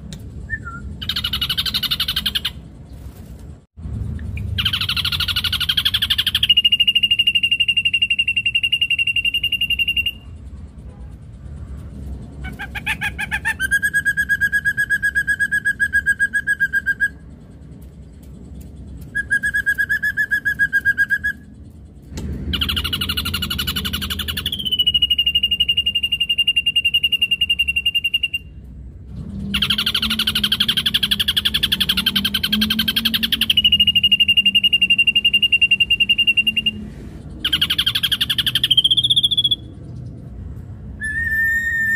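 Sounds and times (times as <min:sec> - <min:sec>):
bird singing rattles and whistles: 0:00.0 - 0:03.6, 0:04.2 - 0:41.9.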